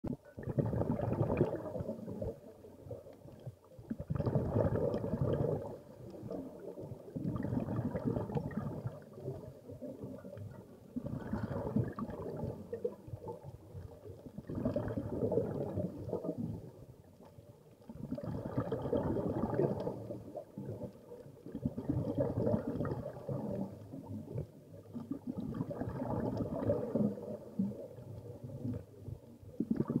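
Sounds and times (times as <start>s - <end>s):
underwater breath bubbles gurgling: 0.1s - 30.0s.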